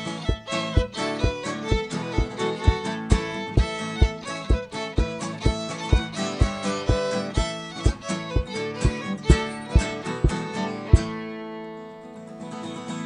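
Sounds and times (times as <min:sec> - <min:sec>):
acoustic guitar and fiddle folk tune: 0:00.0 - 0:13.0.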